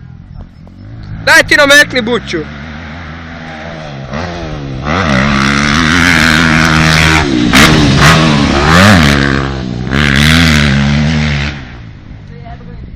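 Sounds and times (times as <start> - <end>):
motocross bike engine revving: 0.6 - 12.0.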